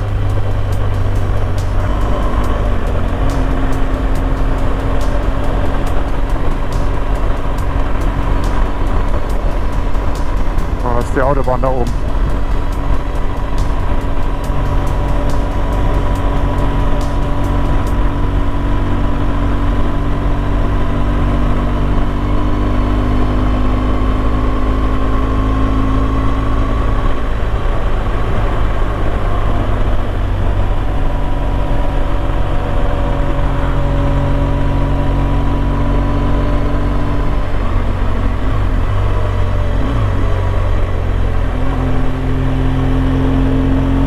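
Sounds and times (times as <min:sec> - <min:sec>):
motorcycle engine running: 0:00.0 - 0:44.0
road noise: 0:00.0 - 0:44.0.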